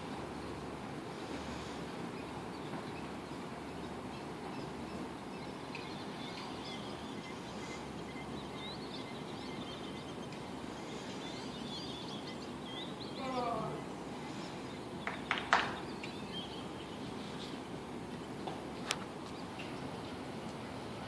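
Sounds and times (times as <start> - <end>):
small birds chirping: 0.0 - 21.0
steady background noise: 0.0 - 21.0.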